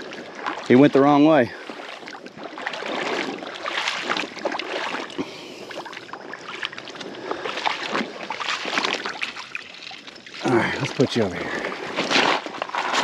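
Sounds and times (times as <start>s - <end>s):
creek water splashing: 0.0s - 13.0s.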